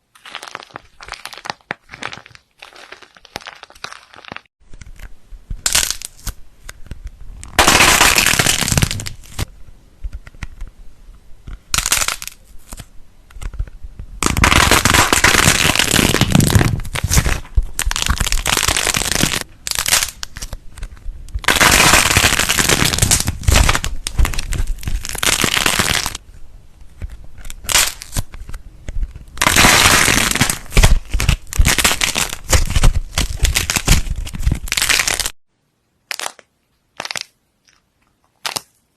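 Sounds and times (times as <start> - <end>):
crunchy material being crushed: 0.0 - 10.7, 11.5 - 35.4, 36.0 - 38.9.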